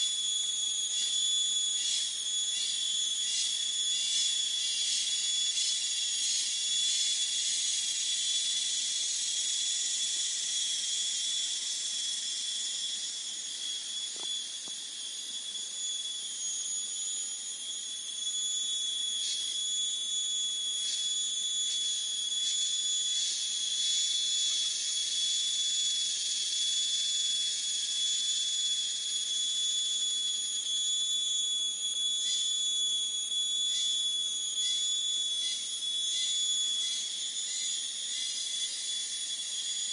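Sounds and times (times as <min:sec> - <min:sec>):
insects trilling: 0:00.0 - 0:39.9
pulsing insect calls: 0:00.0 - 0:39.9.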